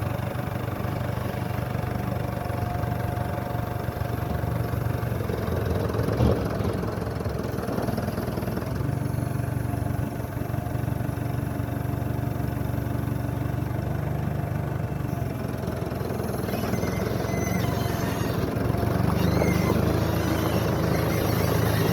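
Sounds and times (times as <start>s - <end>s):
tractor engine running: 0.0s - 21.9s.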